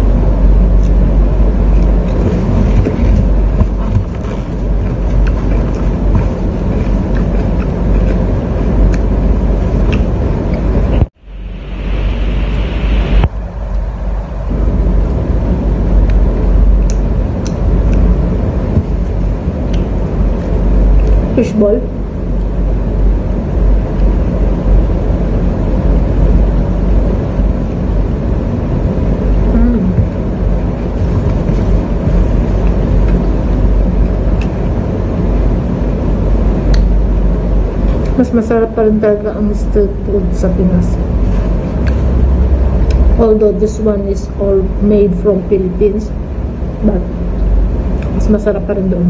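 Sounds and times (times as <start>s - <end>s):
loud low rumbling: 0.0s - 49.0s
low-pitched background noise: 0.0s - 49.0s.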